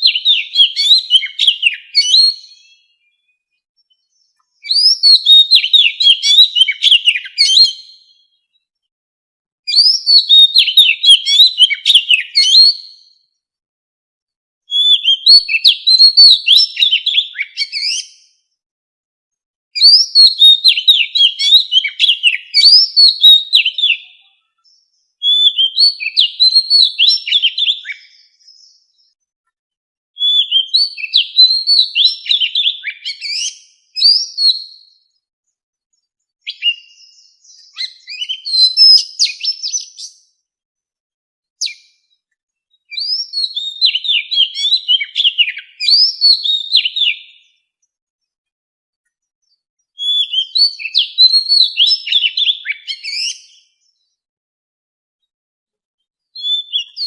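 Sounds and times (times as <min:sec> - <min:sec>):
bird singing whistled notes: 0:00.0 - 0:08.8, 0:09.7 - 0:13.4, 0:14.7 - 0:18.5, 0:19.8 - 0:29.2, 0:30.2 - 0:35.3, 0:35.9 - 0:40.4, 0:41.6 - 0:47.8, 0:49.4 - 0:54.2, 0:56.3 - 0:57.0.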